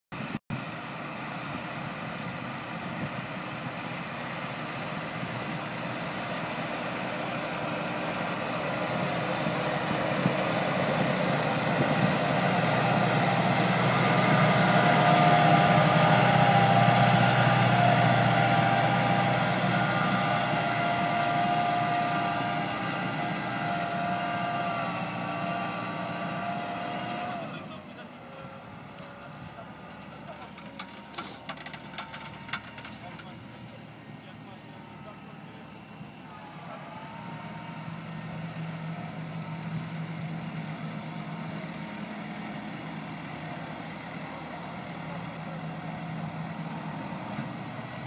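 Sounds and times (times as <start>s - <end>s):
tractor diesel engine under load: 0.1s - 48.0s.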